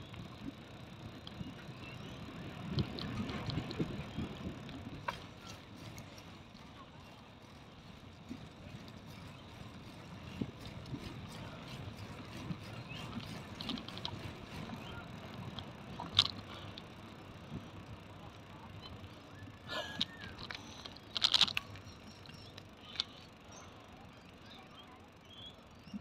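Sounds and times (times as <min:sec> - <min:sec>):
bicycle tyres rumbling on asphalt: 0:00.0 - 0:23.6.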